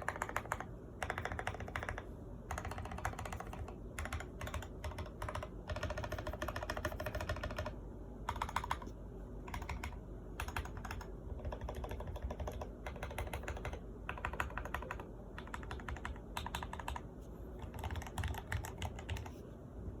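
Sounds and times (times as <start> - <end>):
mechanical keyboard typing: 0.0 - 8.9, 9.5 - 19.4.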